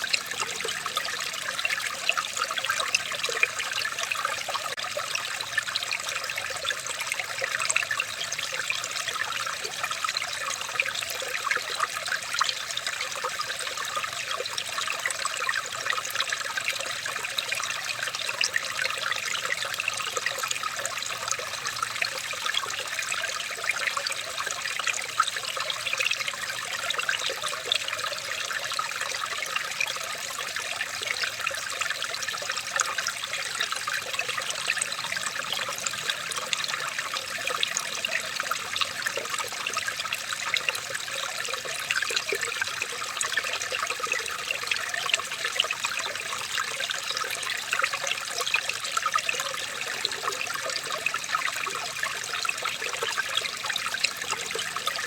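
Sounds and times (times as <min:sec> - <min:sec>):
stream water trickling over stones: 0:00.0 - 0:55.0.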